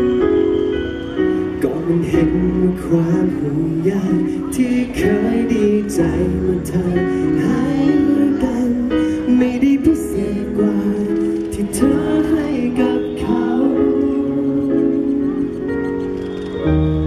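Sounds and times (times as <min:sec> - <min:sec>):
man singing into microphone: 0:01.6 - 0:16.0.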